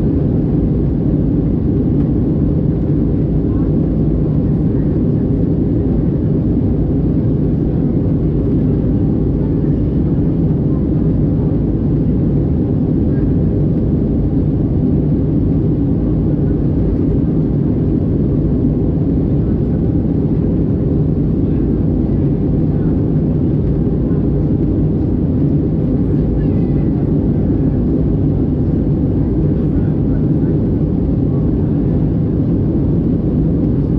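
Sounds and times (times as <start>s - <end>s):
jet engine drone: 0.0s - 33.9s.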